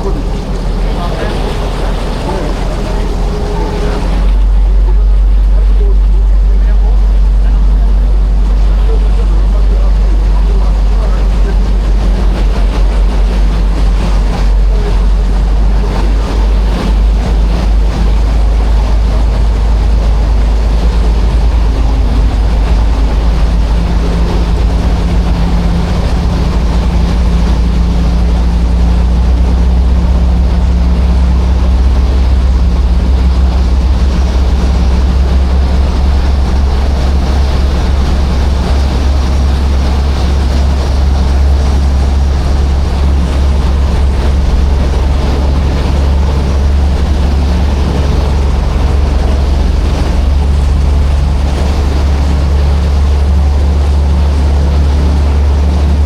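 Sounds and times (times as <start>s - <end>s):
ferry engine droning: 0.0s - 56.0s
water rushing along hull: 0.0s - 56.0s.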